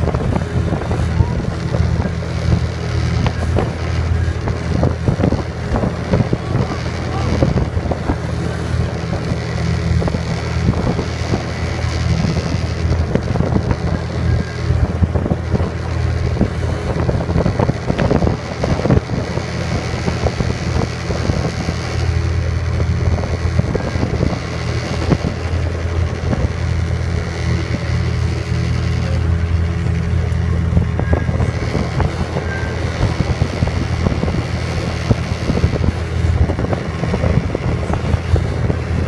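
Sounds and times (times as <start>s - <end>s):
outboard motor running: 0.0s - 39.0s
water rushing past hull: 0.0s - 39.0s
wind buffeting microphone: 0.0s - 39.0s.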